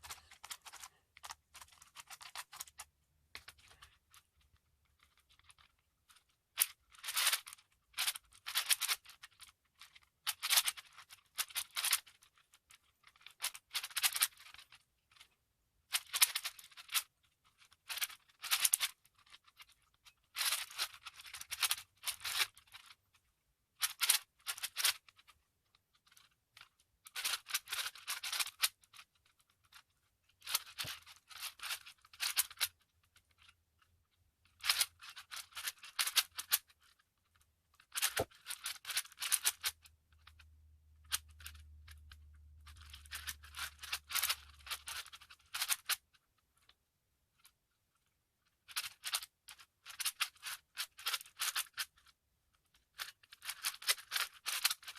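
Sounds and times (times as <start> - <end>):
speed cube clacking: 0.0 - 4.1, 5.0 - 15.3, 15.9 - 23.0, 23.8 - 25.3, 26.1 - 29.8, 30.4 - 33.5, 34.5 - 40.4, 41.0 - 46.0, 48.7 - 52.1, 52.9 - 54.9.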